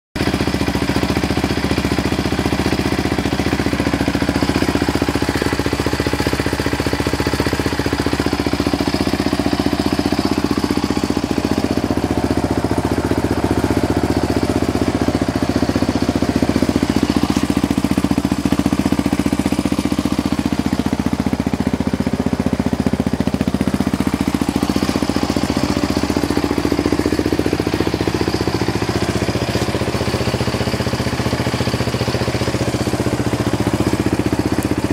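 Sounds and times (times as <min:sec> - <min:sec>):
engine idling: 0:00.2 - 0:34.9.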